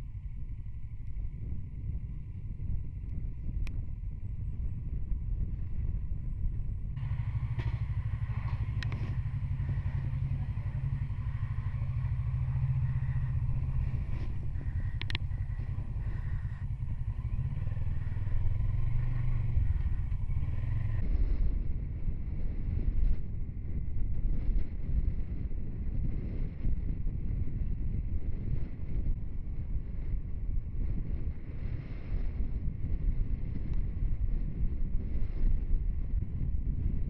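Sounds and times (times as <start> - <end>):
motorcycle engine running: 0.0 - 37.0
wind rushing over microphone: 0.0 - 37.0.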